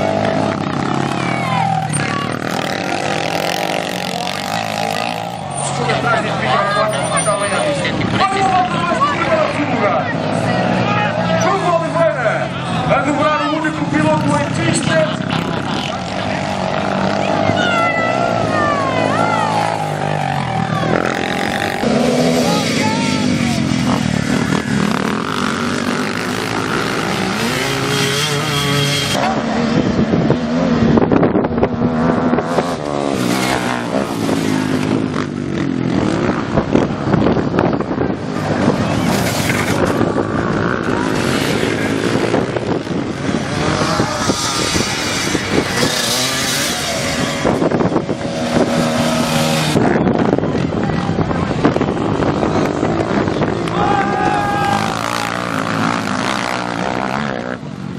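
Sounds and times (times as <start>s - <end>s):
off-road motorcycles revving: 0.0s - 57.9s.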